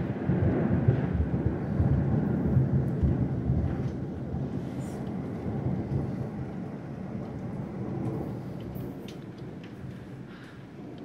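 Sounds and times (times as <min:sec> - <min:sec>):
rolling thunder: 0:00.0 - 0:10.0.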